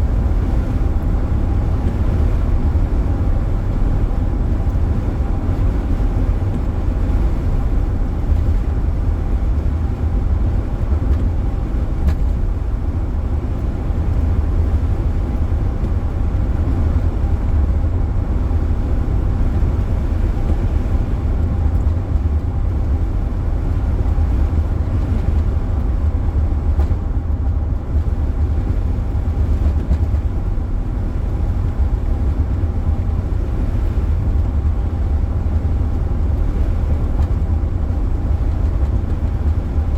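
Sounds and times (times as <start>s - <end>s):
car road rumble from inside: 0.0s - 39.9s.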